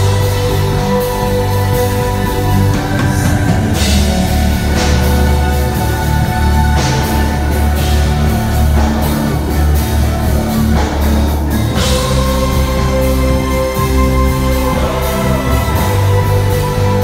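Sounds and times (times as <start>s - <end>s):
heavy sustained bass: 0.0s - 17.0s
live rock band playing: 0.0s - 17.0s.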